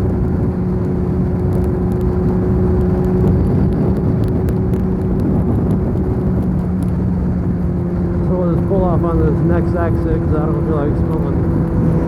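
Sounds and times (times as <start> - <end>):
motorcycle engine cruising: 0.0 - 12.0
wind and road rumble: 0.0 - 12.0.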